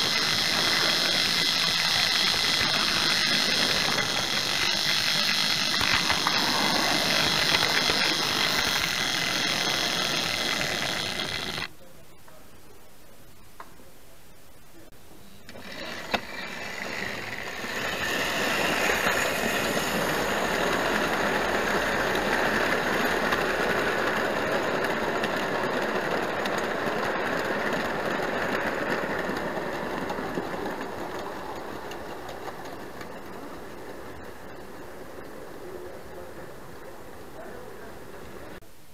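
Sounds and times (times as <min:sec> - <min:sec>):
model train motor whirring: 0:00.0 - 0:11.7, 0:15.4 - 0:38.6.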